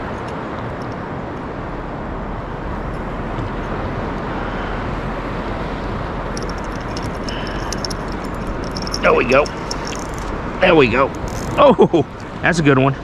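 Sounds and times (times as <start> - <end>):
wind noise on microphone: 0.0 - 12.4.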